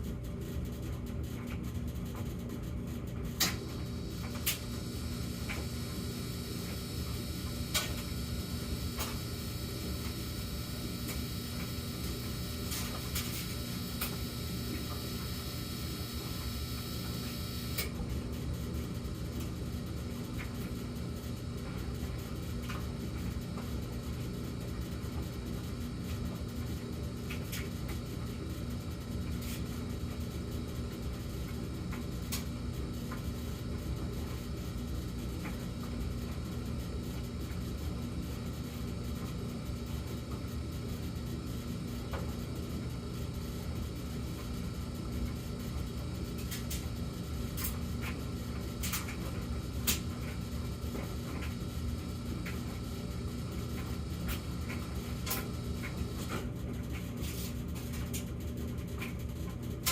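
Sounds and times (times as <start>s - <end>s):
dryer high-pitched hum: 0.0s - 59.9s
steady low hum: 0.0s - 59.9s.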